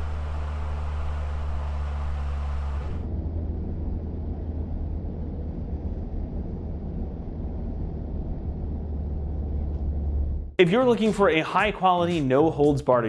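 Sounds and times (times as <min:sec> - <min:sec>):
low exhaust rumble: 0:00.0 - 0:10.9.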